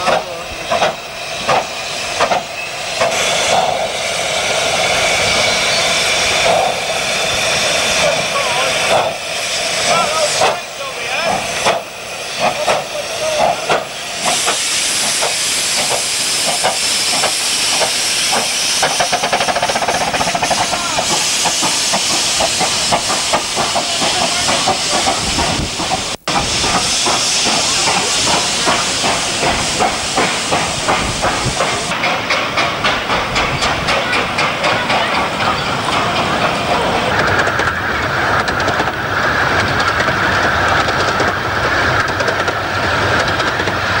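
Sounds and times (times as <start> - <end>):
steam locomotive chuffing: 0.0 - 44.0
coaches rolling over rail joints: 7.6 - 44.0.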